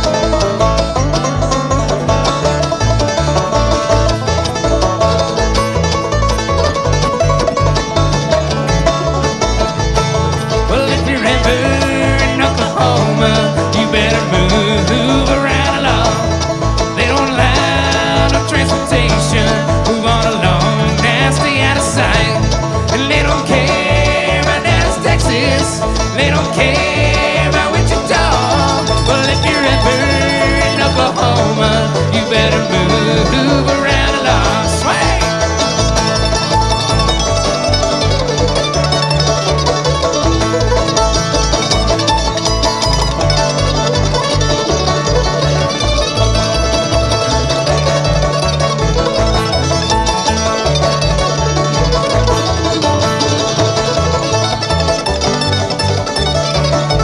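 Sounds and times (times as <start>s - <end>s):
banjo picking: 0.0s - 57.0s
guitar: 0.0s - 57.0s
steady bass line: 0.0s - 57.0s.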